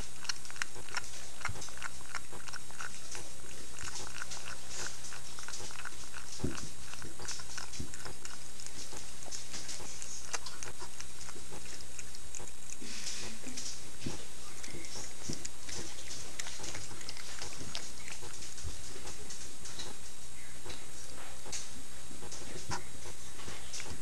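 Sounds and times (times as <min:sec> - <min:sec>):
cat chewing and crunching: 0:00.0 - 0:24.0.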